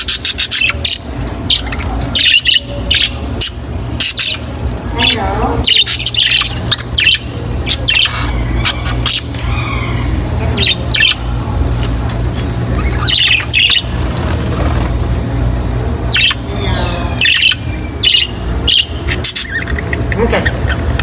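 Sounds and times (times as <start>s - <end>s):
budgerigars chattering and squawking: 0.0s - 21.0s
steady low hum: 0.0s - 21.0s.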